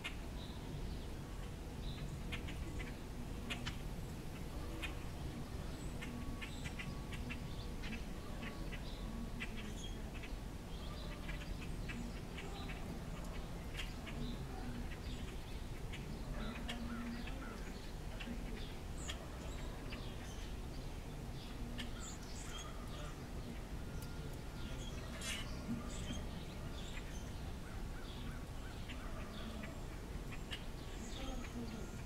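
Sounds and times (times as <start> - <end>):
songbirds chip calls: 0.0 - 32.0.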